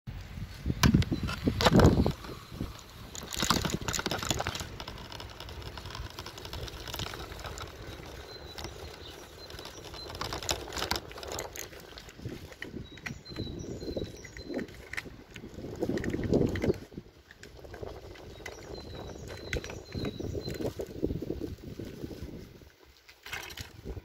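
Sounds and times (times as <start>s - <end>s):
wind rumble on microphone: 0.1s - 24.0s
small clicks: 0.8s - 20.9s.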